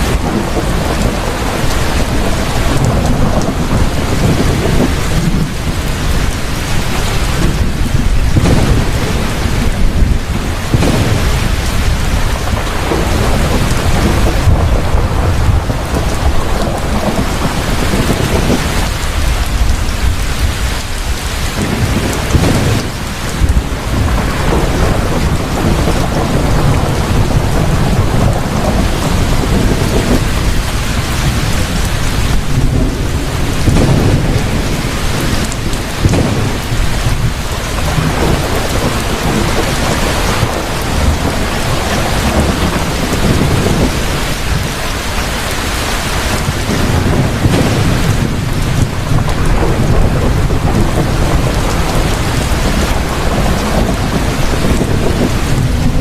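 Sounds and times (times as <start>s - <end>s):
heavy rain falling: 0.0s - 56.0s
low thunder rumble: 0.0s - 56.0s.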